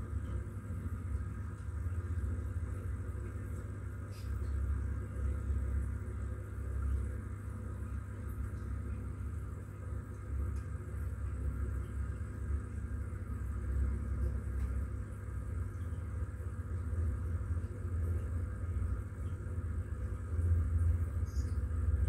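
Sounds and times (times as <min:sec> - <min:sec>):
aquarium equipment humming: 0:00.0 - 0:22.0.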